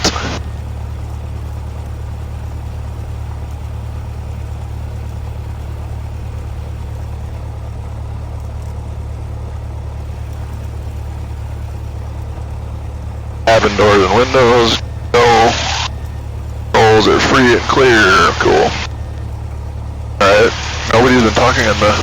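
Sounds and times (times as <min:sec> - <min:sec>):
propeller plane engine idling: 0:00.0 - 0:22.0.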